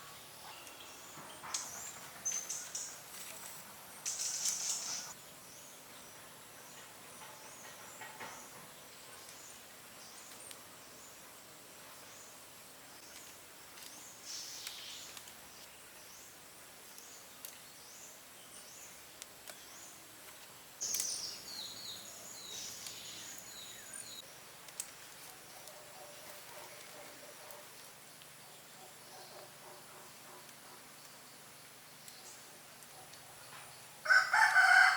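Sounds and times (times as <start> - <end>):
small birds chirping: 0.0 - 34.1
faint steady hiss: 0.0 - 34.3.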